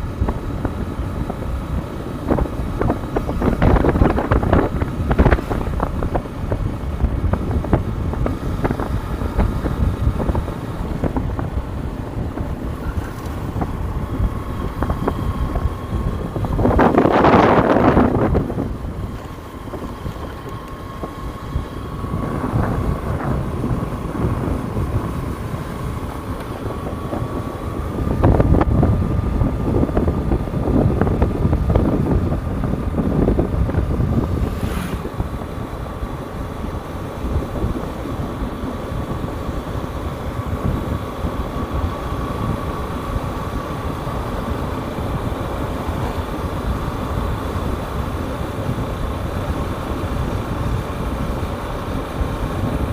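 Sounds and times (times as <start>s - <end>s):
motorcycle engine running: 0.0s - 52.9s
wind buffeting microphone: 0.0s - 52.9s.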